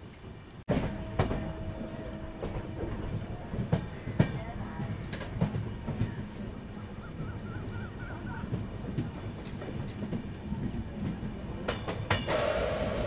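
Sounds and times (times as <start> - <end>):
train rumble: 0.0 - 13.0
wheels clicking over rail joints: 0.7 - 13.0.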